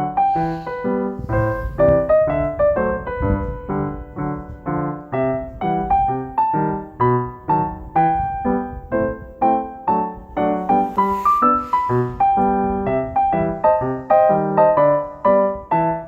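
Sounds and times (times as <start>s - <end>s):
piano single notes: 0.0s - 16.0s.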